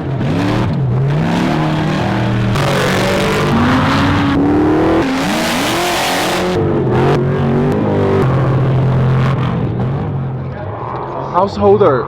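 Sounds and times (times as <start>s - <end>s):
truck engine revving hard: 0.0s - 10.6s.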